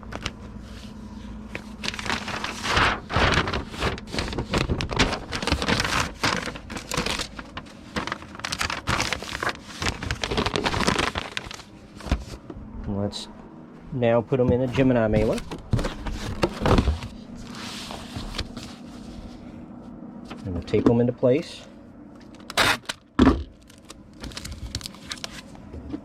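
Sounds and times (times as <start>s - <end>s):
plastic and paper rustling: 0.0s - 12.5s, 14.5s - 19.5s, 22.2s - 26.0s.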